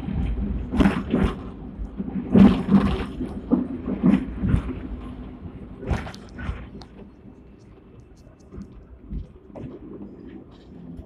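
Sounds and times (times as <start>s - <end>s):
tram clanks and rattles: 0.0s - 11.0s
tram rumbling on track: 0.0s - 11.0s.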